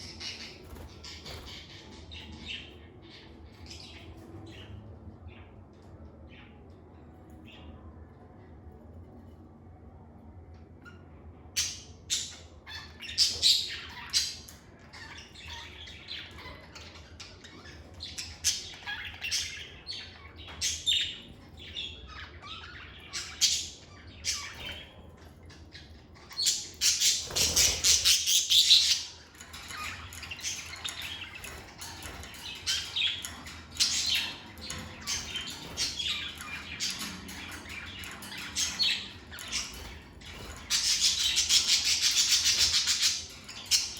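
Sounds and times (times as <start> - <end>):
lovebirds chirping and squawking: 0.0 - 6.6, 10.8 - 43.9.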